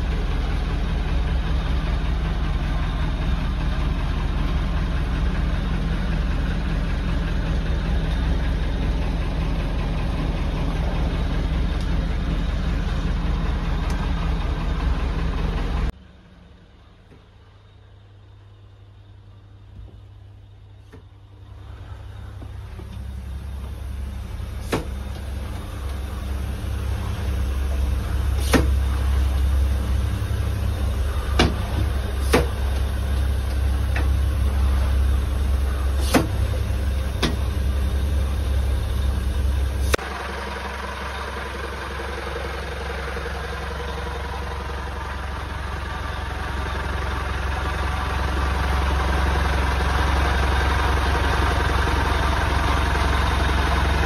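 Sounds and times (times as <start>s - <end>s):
bright steady hum: 0.0s - 54.0s
engine rumbling: 0.0s - 54.0s.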